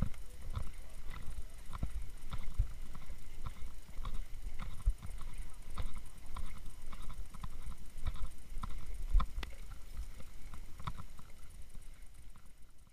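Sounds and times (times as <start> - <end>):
scuba gear clicking and knocking: 0.0 - 11.3.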